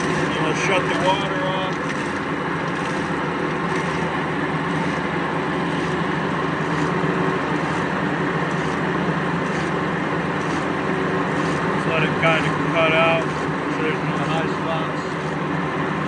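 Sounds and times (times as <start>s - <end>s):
surface grinder grinding metal: 0.0s - 15.6s.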